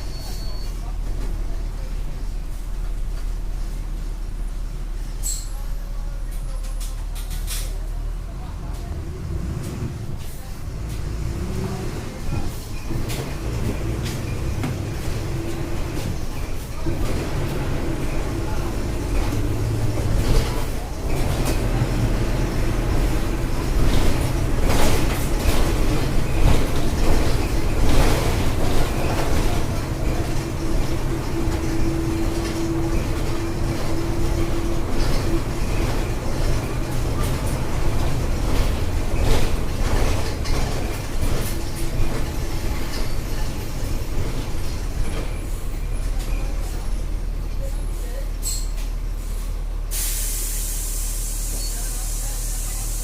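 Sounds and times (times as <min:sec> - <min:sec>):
bus body rattling: 0:00.0 - 0:53.0
bus diesel engine droning: 0:00.0 - 0:53.0.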